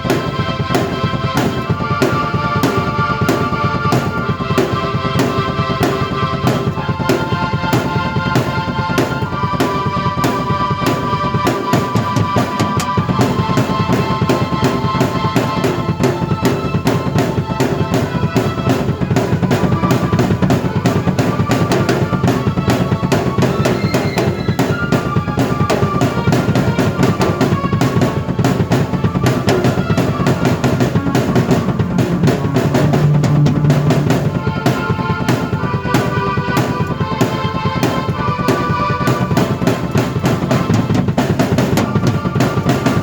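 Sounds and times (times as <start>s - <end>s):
drum kit fast beat: 0.0s - 43.0s
keyboard chords: 0.0s - 43.0s.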